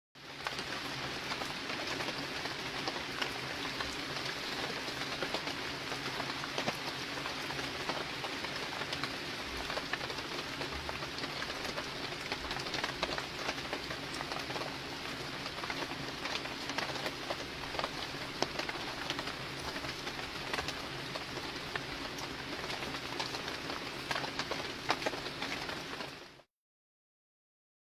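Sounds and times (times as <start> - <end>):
rain patter: 0.2 - 26.5.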